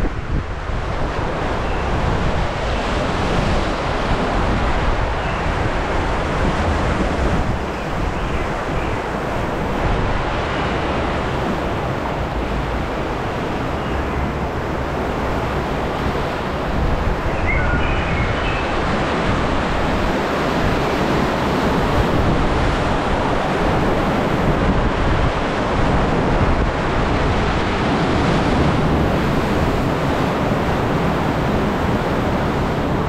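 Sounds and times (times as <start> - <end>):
rapids water churning: 0.0 - 33.0
wind noise on microphone: 0.0 - 33.0.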